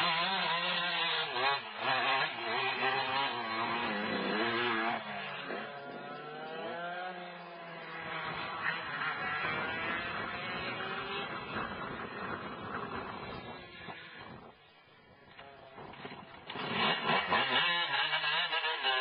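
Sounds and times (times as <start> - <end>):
motocross bike engine revving: 0.0 - 14.6, 15.2 - 19.0.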